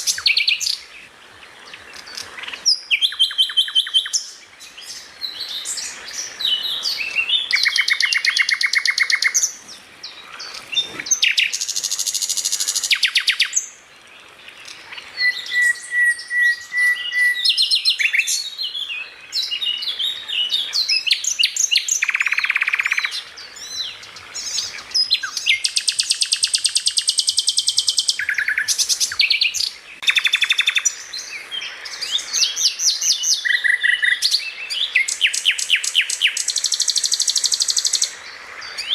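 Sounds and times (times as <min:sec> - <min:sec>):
songbird trilling and chirping: 0:00.0 - 0:01.0, 0:01.6 - 0:13.8, 0:14.4 - 0:38.9.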